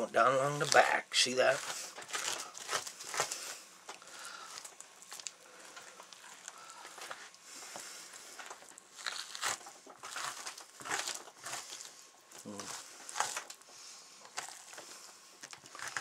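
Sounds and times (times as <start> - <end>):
newspaper crinkling: 0.4 - 7.2, 8.1 - 13.6, 14.2 - 16.0.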